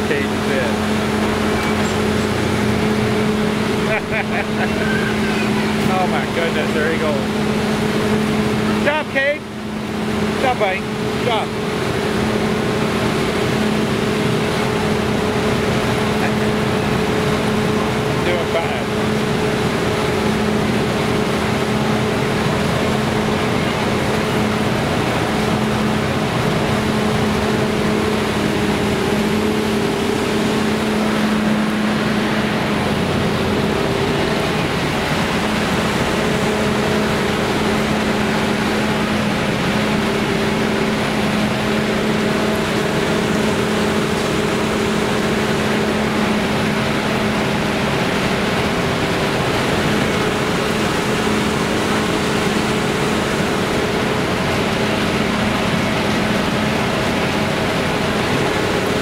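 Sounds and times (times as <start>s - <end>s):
fairground ride machinery humming: 0.0s - 59.0s.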